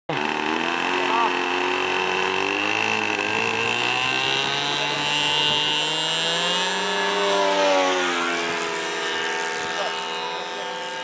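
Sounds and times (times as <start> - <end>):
model airplane engine buzzing: 0.1 - 11.0.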